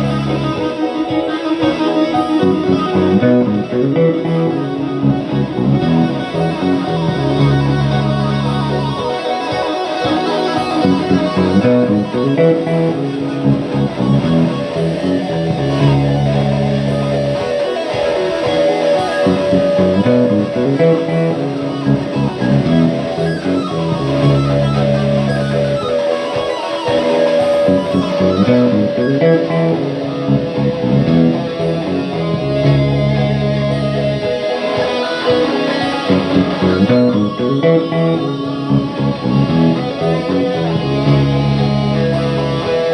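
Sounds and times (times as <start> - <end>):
low sustained bass notes: 0.0 - 1.0, 2.2 - 9.1, 10.2 - 26.0, 27.2 - 34.4, 36.0 - 42.9
electric guitar chords and melody: 0.0 - 42.9.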